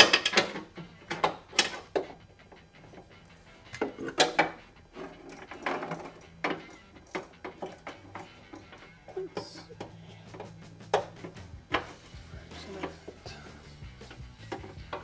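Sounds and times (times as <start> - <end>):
hand tools clicking on metal: 0.0 - 13.2.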